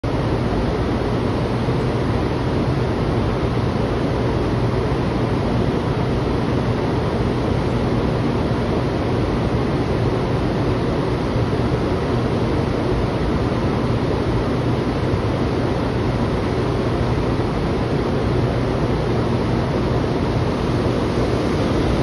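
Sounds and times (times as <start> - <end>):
train ventilation hum and air rush: 0.0 - 22.0.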